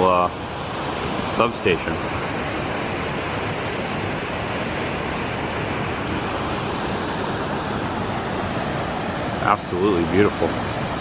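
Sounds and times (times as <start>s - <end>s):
water rushing from outflow: 0.0s - 11.0s.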